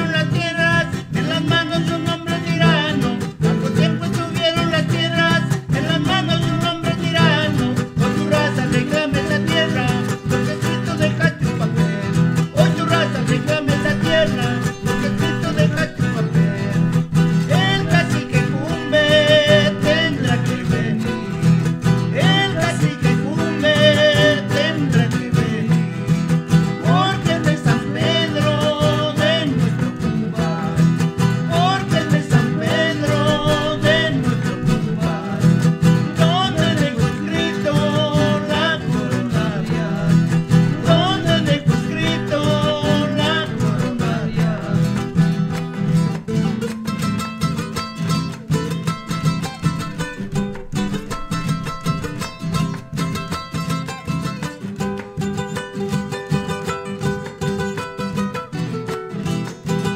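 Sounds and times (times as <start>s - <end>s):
guitars strummed and plucked: 0.0s - 59.9s.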